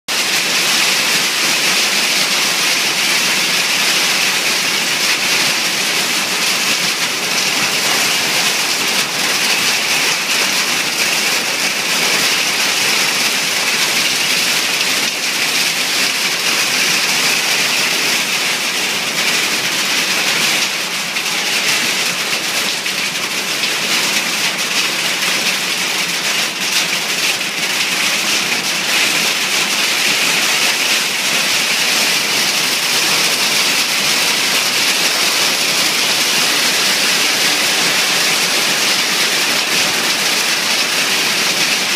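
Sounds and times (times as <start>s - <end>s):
rain and hail on a roof: 0.1s - 41.9s.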